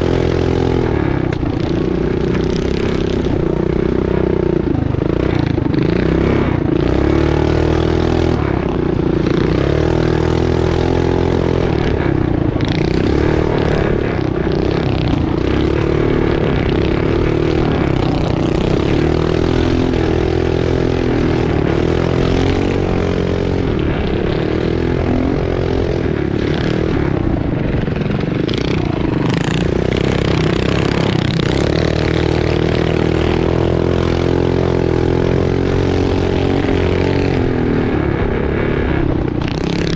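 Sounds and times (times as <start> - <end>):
bike rattling over rough ground: 0.0 - 39.9
mini bike engine revving: 0.0 - 39.9.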